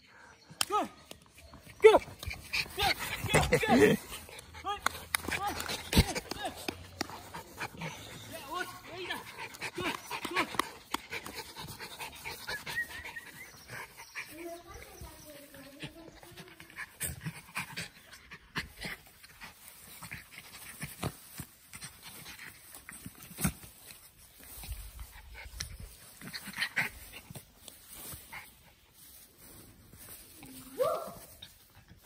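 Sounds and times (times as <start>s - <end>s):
puppies panting and snuffling: 0.0s - 32.0s.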